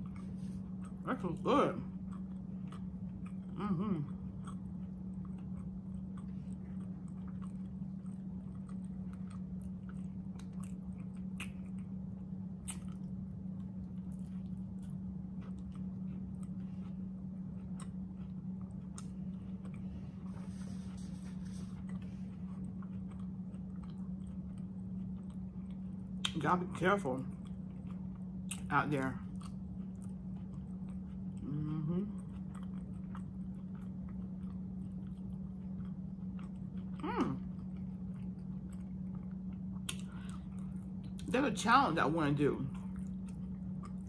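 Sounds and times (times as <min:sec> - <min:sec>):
person chewing: 0:00.0 - 0:26.4, 0:27.3 - 0:41.3, 0:42.7 - 0:44.0
low hum: 0:00.0 - 0:44.0.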